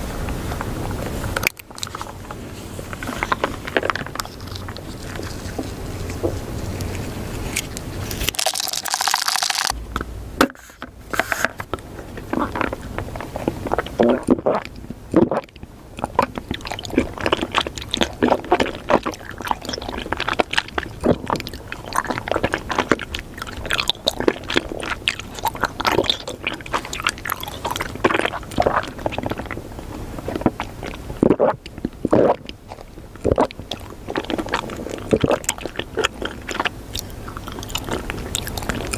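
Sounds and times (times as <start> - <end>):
close-up crunching and clicking: 1.4 - 10.1, 11.4 - 38.9.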